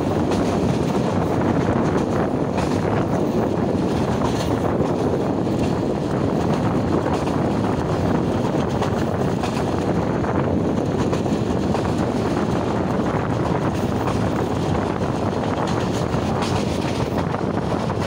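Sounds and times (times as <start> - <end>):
train wheels running: 0.0 - 18.0
wind on microphone: 0.0 - 18.0.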